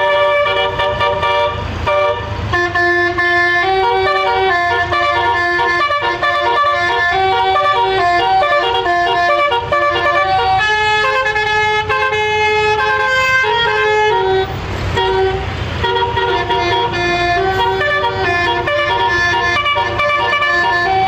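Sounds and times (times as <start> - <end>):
bus air horn melody: 0.0 - 21.0.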